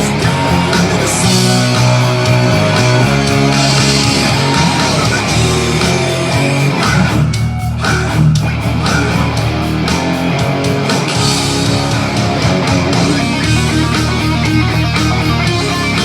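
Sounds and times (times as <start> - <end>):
distorted electric guitar: 0.0 - 16.0
rock drums: 0.0 - 16.0.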